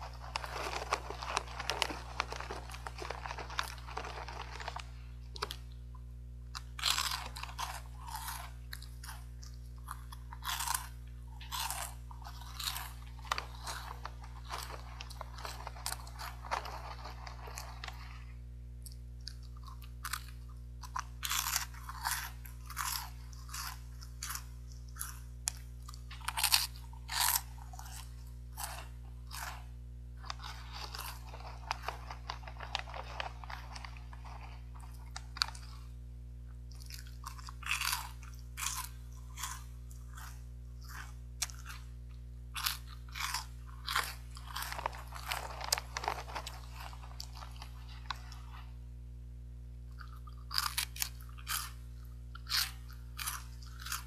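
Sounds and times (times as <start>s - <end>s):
crunching and chewing snacks: 0.0s - 48.9s, 49.8s - 54.0s
steady low hum: 0.0s - 54.0s.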